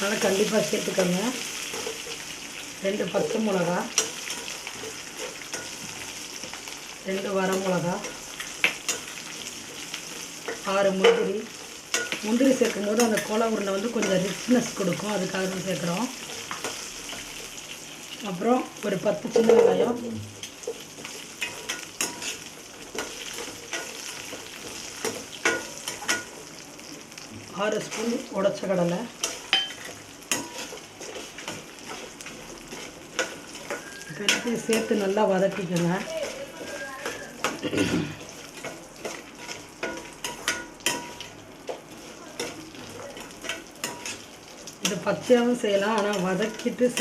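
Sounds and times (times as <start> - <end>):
food sizzling in hot oil: 0.0 - 47.0.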